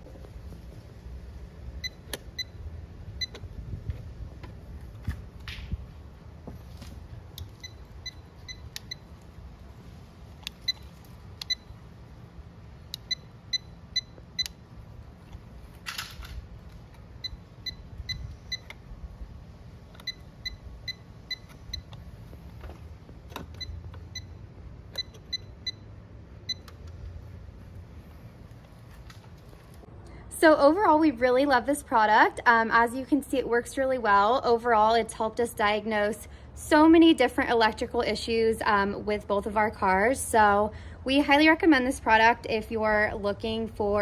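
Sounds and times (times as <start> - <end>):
low steady rumble: 0.0 - 44.0.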